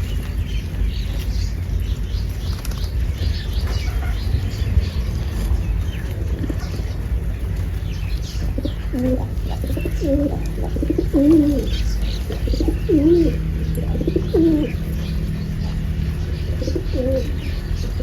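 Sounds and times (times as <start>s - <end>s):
steady low rumble: 0.0s - 18.0s
pigeon cooing: 3.4s - 18.0s.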